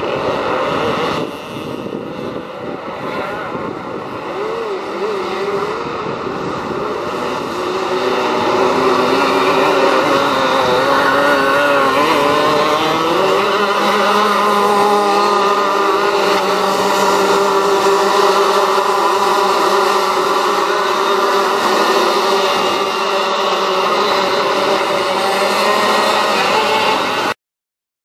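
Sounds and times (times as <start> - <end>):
go-kart engines revving: 0.0 - 27.4.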